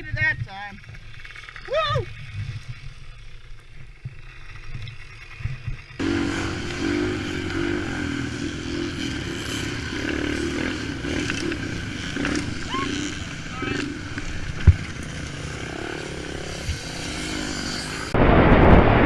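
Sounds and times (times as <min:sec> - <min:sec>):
motorcycle engine running: 0:00.0 - 0:18.2
road and wind noise: 0:00.0 - 0:19.0.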